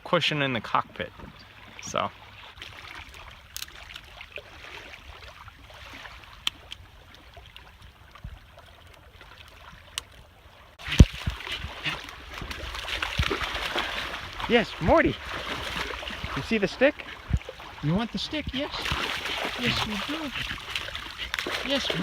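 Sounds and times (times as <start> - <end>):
wind: 0.0 - 22.0
small waves lapping: 0.3 - 22.0
rush of water: 0.4 - 22.0.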